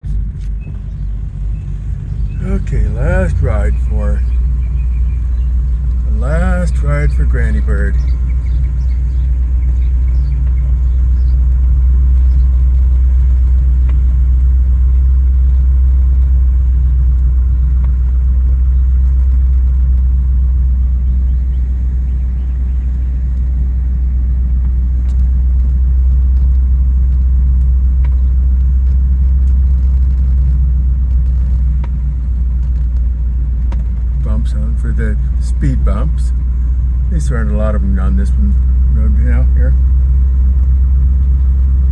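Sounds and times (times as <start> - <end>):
car engine and road noise rumble: 0.0 - 41.9.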